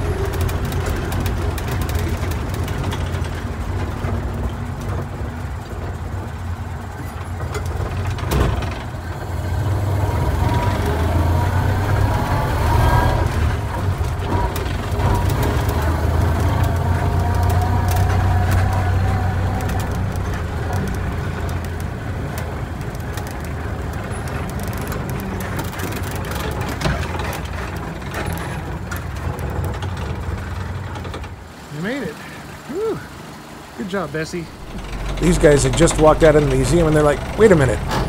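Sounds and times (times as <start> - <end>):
clicks and rattles from truck body: 0.0 - 31.6
truck engine running: 0.0 - 38.0.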